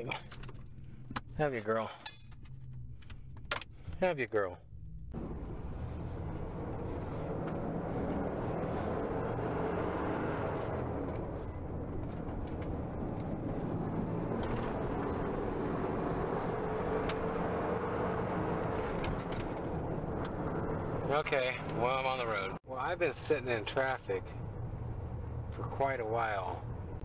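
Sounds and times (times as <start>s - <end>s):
road noise: 0.0s - 27.0s
truck engine hum: 0.0s - 27.0s.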